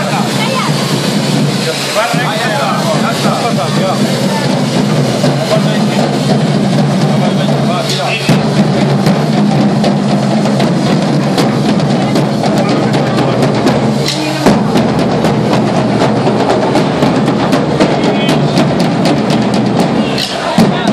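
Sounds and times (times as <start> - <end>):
drums beaten fast: 0.0 - 20.9.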